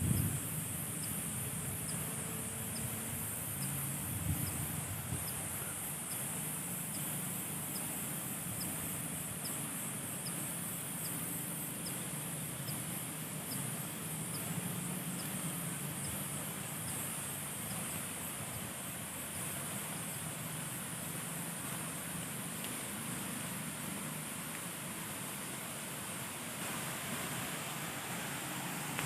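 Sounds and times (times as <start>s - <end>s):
high-pitched insect chorus: 0.0s - 29.0s
low steady rumble: 0.0s - 29.0s.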